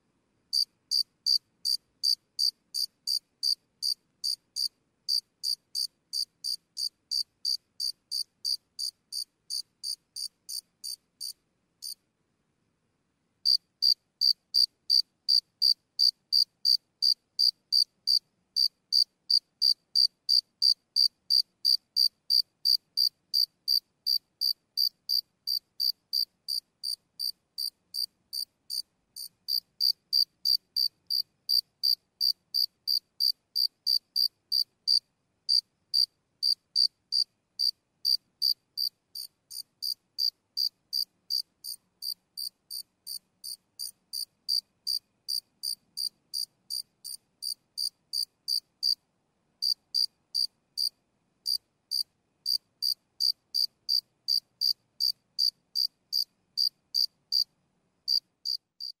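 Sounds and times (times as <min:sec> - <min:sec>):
cricket chirping: 0:00.5 - 0:12.0, 0:13.4 - 0:49.0, 0:49.6 - 0:57.5, 0:58.1 - 0:59.0.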